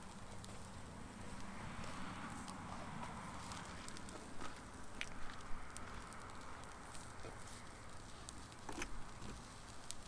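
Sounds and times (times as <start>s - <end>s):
sharp clicks and crackles: 0.0s - 10.0s.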